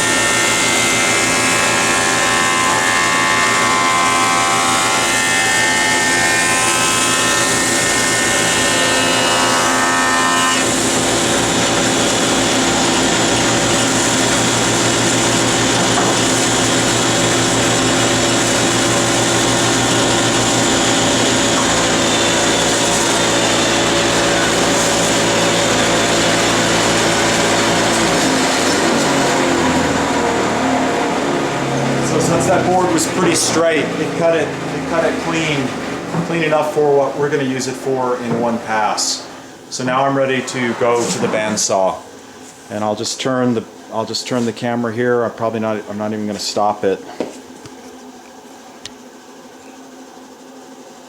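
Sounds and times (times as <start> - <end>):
jointer cutting board: 0.0 - 42.5
dust collector running: 0.0 - 47.7.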